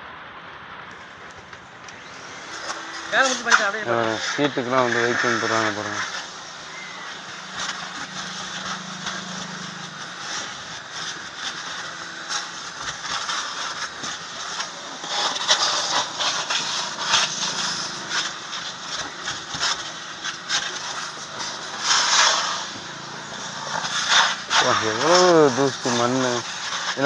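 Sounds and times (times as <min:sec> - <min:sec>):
steady hiss: 0:00.0 - 0:27.0
scraping and crackling: 0:00.5 - 0:27.0.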